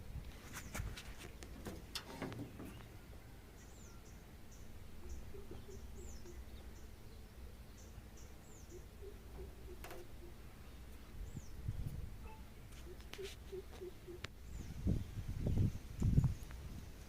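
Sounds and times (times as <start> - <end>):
faint birdsong chirps: 0.1 - 17.0.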